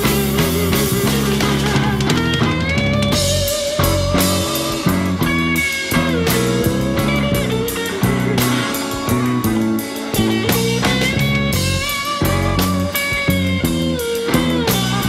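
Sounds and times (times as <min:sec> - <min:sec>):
electric blues guitar jam: 0:00.0 - 0:15.0
steady beat: 0:00.0 - 0:15.0.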